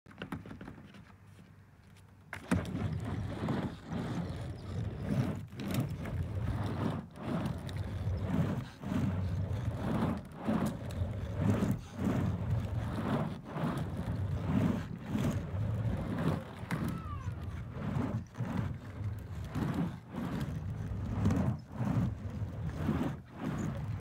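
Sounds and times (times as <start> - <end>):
skateboard wheels rolling on wood: 0.1 - 24.0
skateboard clack: 2.4 - 24.0.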